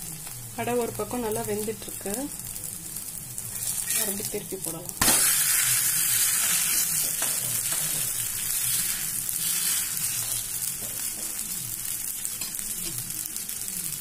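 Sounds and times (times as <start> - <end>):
pancake sizzling in oil: 0.0 - 14.0.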